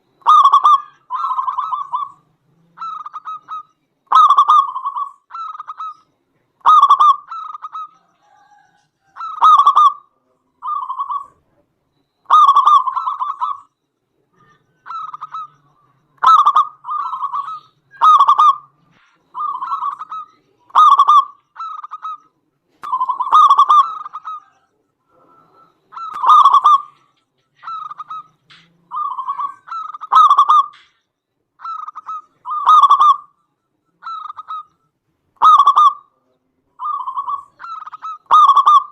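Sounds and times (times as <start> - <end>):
dove cooing: 0.0 - 30.9, 31.6 - 33.4, 35.4 - 38.9.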